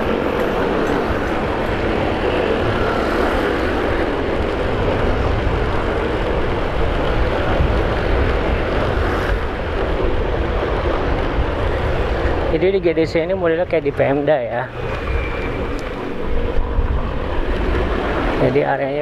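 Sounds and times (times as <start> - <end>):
motorcycle engine drone: 0.0 - 19.0
wind rushing on microphone: 0.0 - 19.0.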